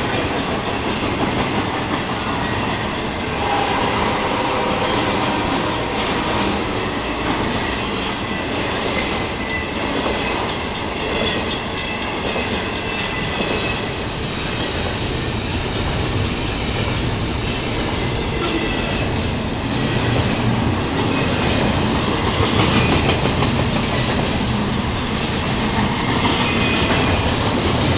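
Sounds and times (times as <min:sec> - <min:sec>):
freight train rumbling past: 0:00.0 - 0:27.9.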